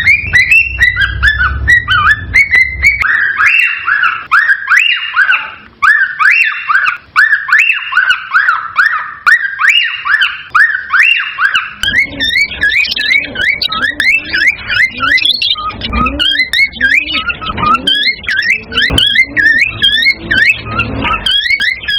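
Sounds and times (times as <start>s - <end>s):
cockatiel whistling: 0.0s - 21.9s.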